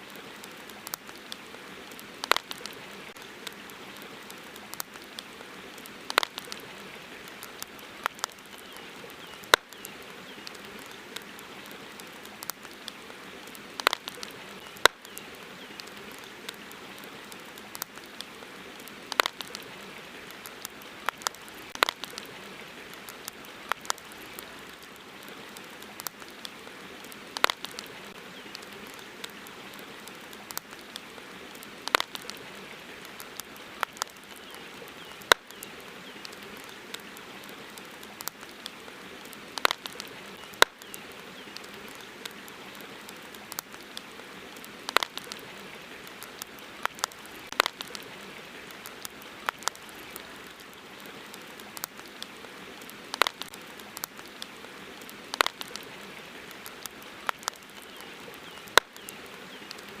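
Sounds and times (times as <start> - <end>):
campfire crackling and popping: 0.0 - 60.0
soft hiss of fire: 0.0 - 60.0.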